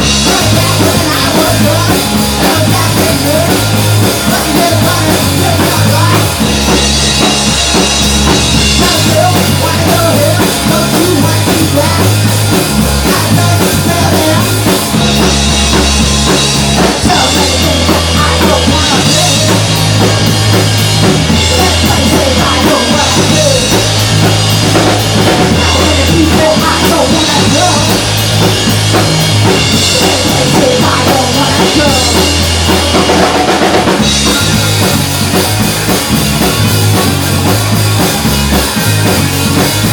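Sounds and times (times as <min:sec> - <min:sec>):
bass line: 0:00.0 - 0:39.9
drum kit beat: 0:00.0 - 0:39.9
rock music: 0:00.0 - 0:39.9.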